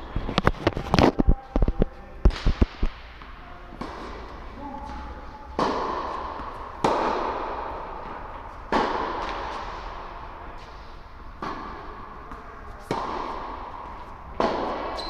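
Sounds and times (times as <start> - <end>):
tennis balls struck by racquets: 2.2 - 15.0.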